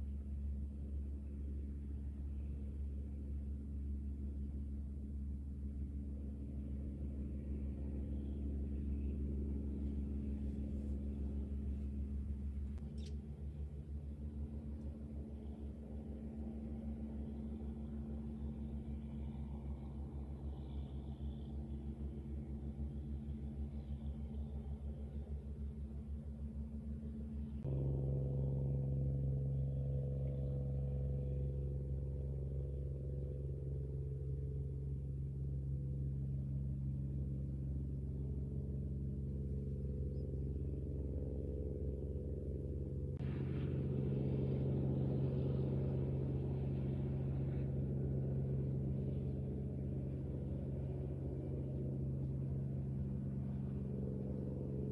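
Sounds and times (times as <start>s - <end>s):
boat diesel engine droning: 0.0s - 54.9s.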